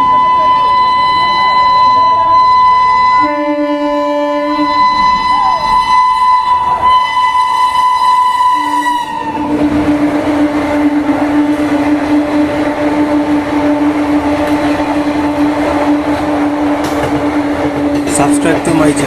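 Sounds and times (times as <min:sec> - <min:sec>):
low held train horn: 0:00.0 - 0:18.1
high bright train horn: 0:00.0 - 0:18.6
train rushing past: 0:00.0 - 0:19.0.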